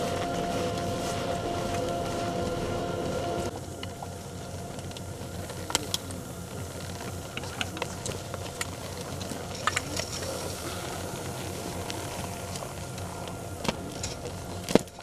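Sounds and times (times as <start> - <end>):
skis and poles clacking: 0.0 - 15.0
steady low rumble: 0.0 - 15.0.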